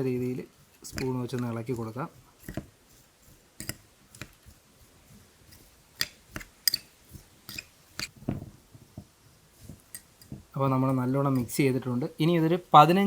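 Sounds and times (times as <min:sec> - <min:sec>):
spoon stirring sticky mixture: 0:00.0 - 0:13.0.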